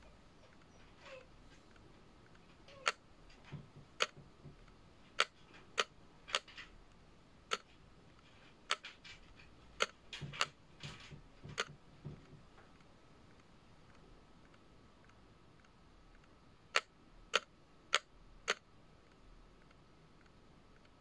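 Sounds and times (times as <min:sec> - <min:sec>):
sharp clicks: 0:00.4 - 0:11.8, 0:12.7 - 0:21.0.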